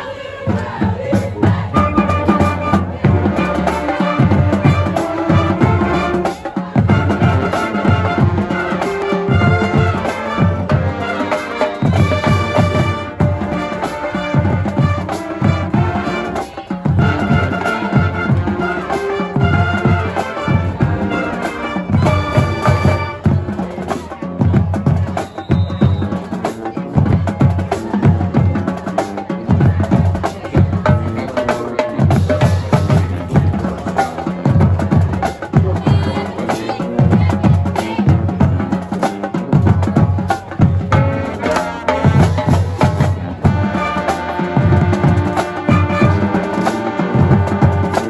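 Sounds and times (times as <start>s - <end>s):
brass and saxophones: 0.0s - 48.0s
drum line: 0.0s - 48.0s.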